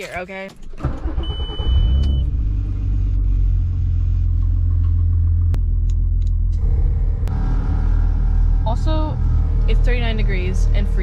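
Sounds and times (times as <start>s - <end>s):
car low rumble: 0.0s - 11.0s.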